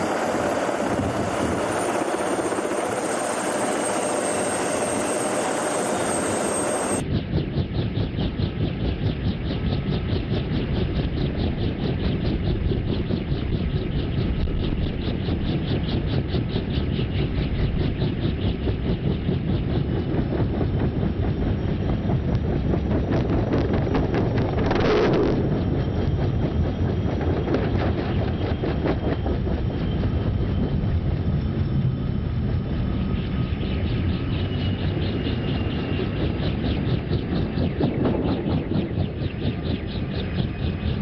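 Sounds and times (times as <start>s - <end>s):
helicopter engine and rotor: 0.0s - 41.0s.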